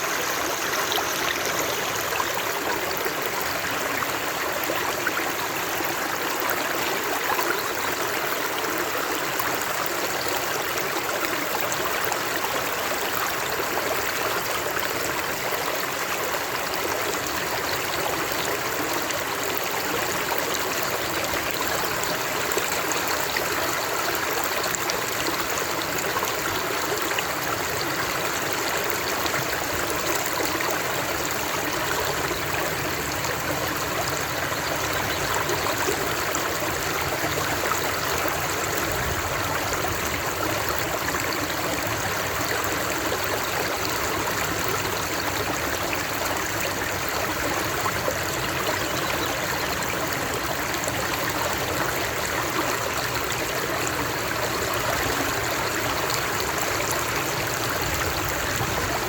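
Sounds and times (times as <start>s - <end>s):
stream water running over stones: 0.0s - 59.0s.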